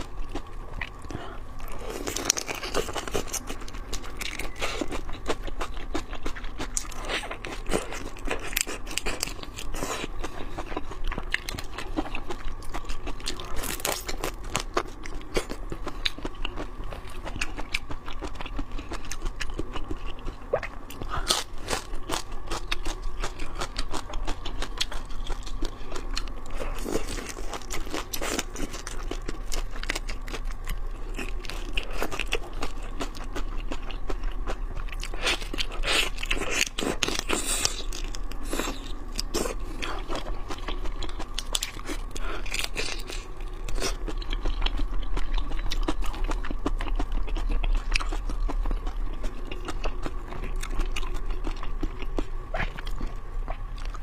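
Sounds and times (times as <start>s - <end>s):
crunching and chewing: 0.0s - 54.0s.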